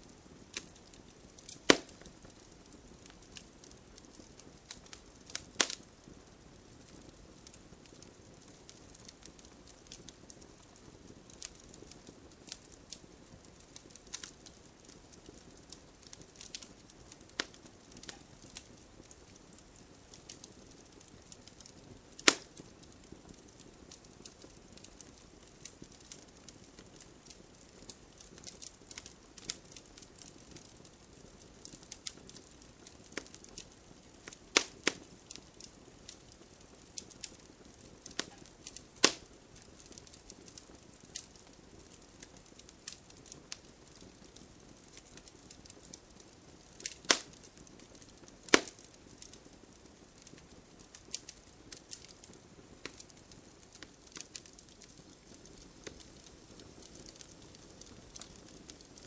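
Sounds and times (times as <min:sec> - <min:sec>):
bonfire crackling and popping: 0:00.0 - 0:59.0
faint hiss of rain: 0:00.0 - 0:59.0.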